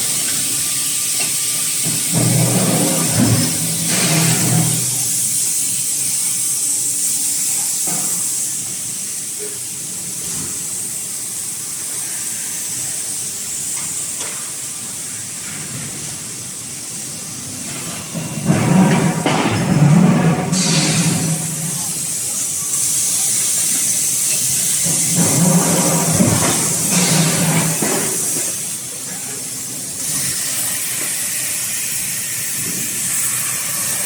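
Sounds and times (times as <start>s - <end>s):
lubricant spray hissing on hot dies: 0.0s - 34.0s.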